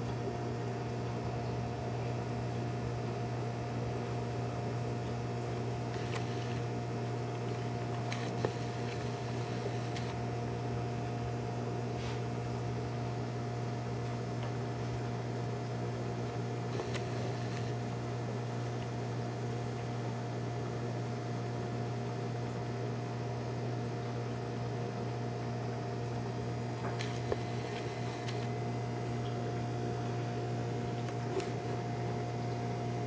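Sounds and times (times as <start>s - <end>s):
aquarium equipment humming: 0.0s - 33.0s.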